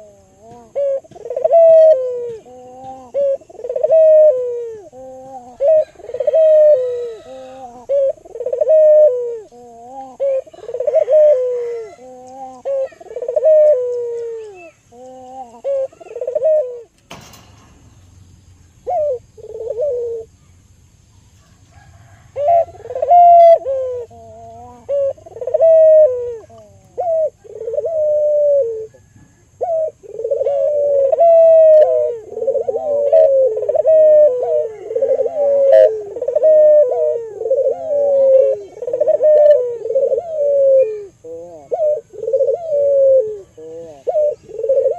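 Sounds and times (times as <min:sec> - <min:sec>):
dove cooing: 0:00.0 - 0:17.6, 0:18.7 - 0:20.7, 0:21.3 - 0:44.9.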